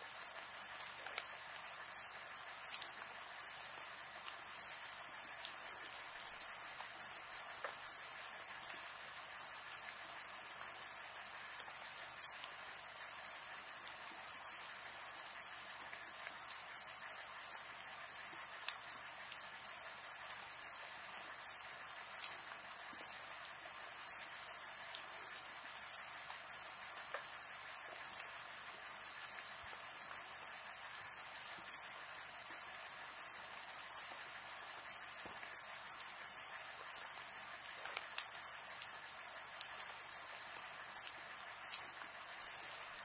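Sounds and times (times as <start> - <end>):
light rain hiss: 0.0 - 43.0
night insects chirping: 0.0 - 43.0.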